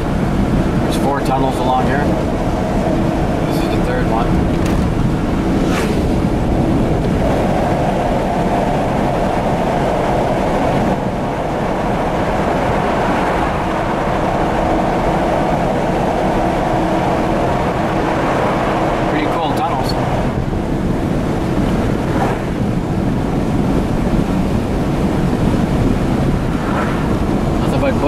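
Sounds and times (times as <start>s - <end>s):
car cabin road rumble: 0.0s - 28.0s.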